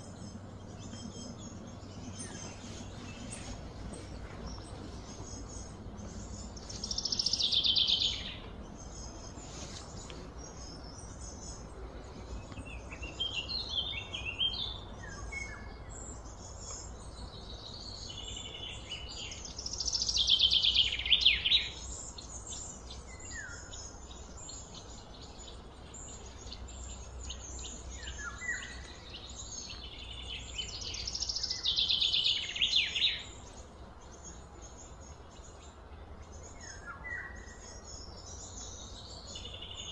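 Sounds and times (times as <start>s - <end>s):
bird chirps: 0.0s - 39.9s
steady low hum: 0.0s - 39.9s.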